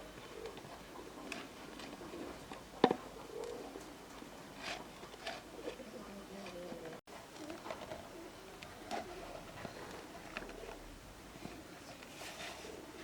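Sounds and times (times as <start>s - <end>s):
pigeons cooing: 0.0s - 11.0s, 12.4s - 13.0s.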